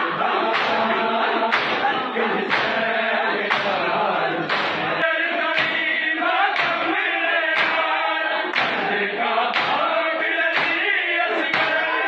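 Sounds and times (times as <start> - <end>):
men chanting together: 0.0 - 12.0
rhythmic chest-beating: 0.0 - 12.0.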